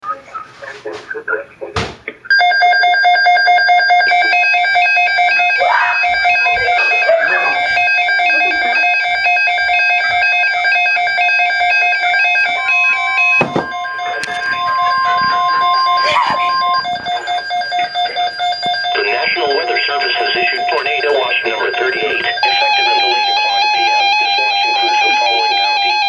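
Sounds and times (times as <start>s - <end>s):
steady warning alarm tone: 0.0s - 26.0s
electronic alert tones: 2.3s - 26.0s.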